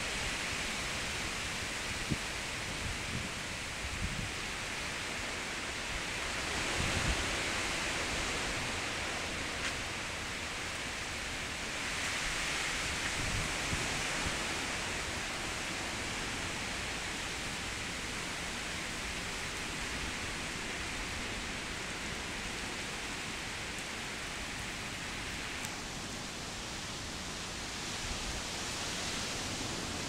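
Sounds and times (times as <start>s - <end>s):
heavy rain hissing: 0.0s - 30.0s
wind gusts on microphone: 0.0s - 30.0s.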